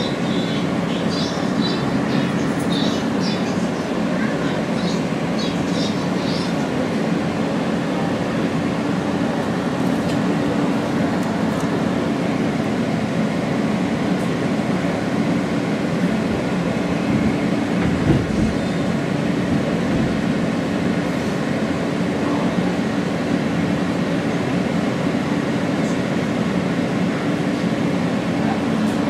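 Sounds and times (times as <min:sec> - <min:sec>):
subway train wheels rumbling: 0:00.0 - 0:29.0.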